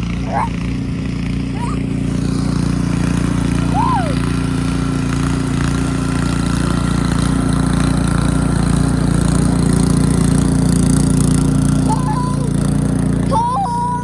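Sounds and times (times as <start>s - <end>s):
snow blower engine running: 0.0s - 14.0s.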